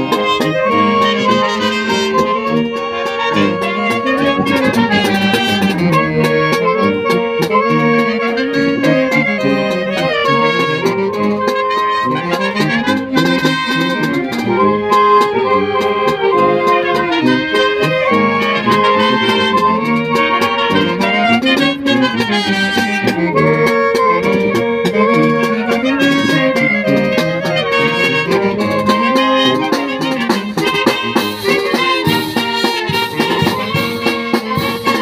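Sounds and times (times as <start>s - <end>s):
percussion beat: 0.0s - 35.0s
sousaphone bass line: 0.0s - 35.0s
trumpets and saxophones: 0.0s - 35.0s.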